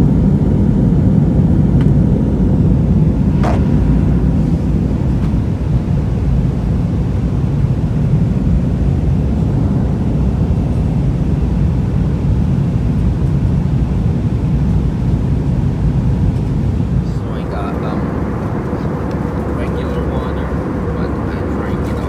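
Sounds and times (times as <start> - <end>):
aircraft cabin engine rumble: 0.0 - 22.0.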